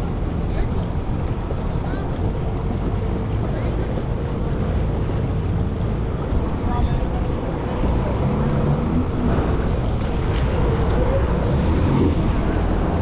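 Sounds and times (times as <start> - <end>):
jet ski engine running: 0.0 - 13.0
water noise: 0.0 - 13.0
wind noise on microphone: 0.0 - 13.0.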